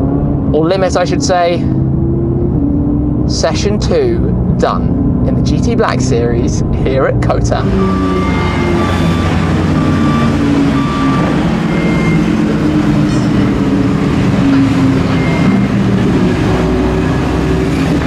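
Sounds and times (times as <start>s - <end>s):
car engine at low revs: 0.0s - 18.0s.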